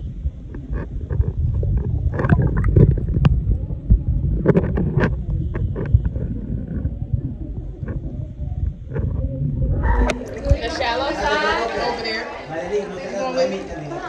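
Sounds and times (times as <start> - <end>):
heavy low rumbling: 0.0 - 12.0
water sloshing and splashing: 0.3 - 12.4.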